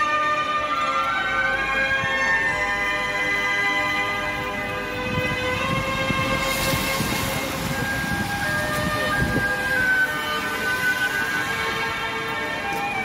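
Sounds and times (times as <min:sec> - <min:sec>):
background music of sustained notes: 0:00.0 - 0:13.0.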